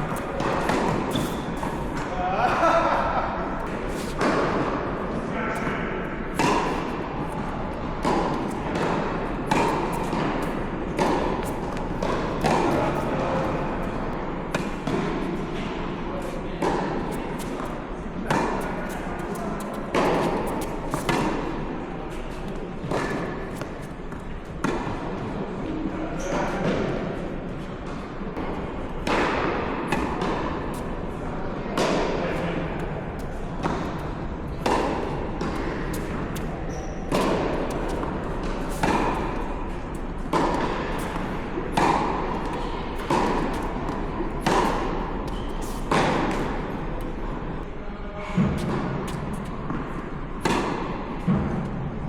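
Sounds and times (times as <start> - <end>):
tennis balls bouncing: 0.0 - 25.4, 26.2 - 47.7, 48.3 - 52.0
court background noise: 0.0 - 52.0
tennis balls hit by rackets: 0.0 - 52.0.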